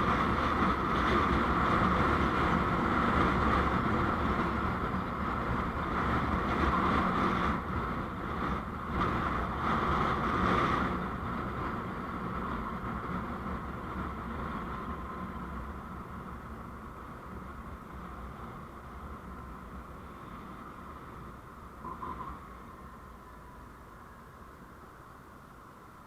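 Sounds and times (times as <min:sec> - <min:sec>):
tyre and wind hiss: 0:00.0 - 0:26.0
vehicle engine rumble: 0:00.0 - 0:26.0.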